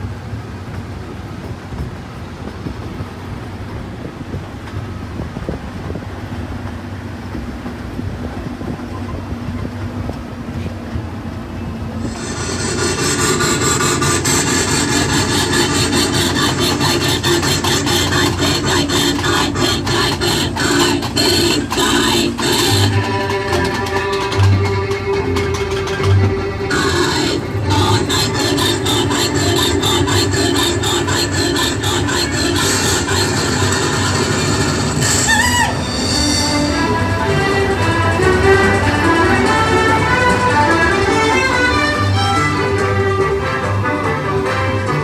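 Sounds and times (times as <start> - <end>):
train ride wheels clacking on rails: 0.0 - 45.0.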